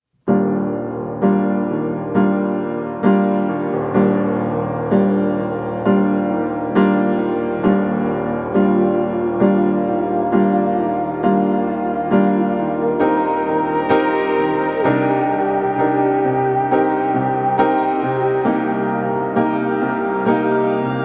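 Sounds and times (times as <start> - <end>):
slow piano chords: 0.2 - 21.0.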